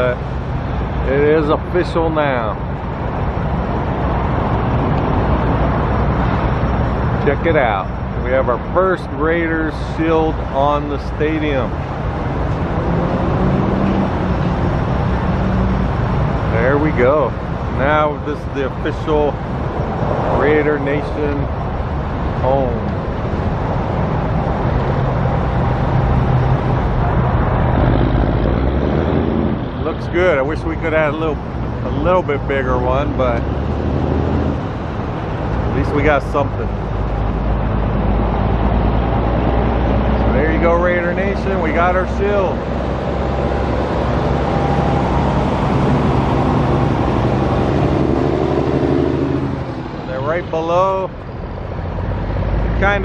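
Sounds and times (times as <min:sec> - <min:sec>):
road traffic rush: 0:00.0 - 0:53.0
vehicle engine hum: 0:00.0 - 0:53.0.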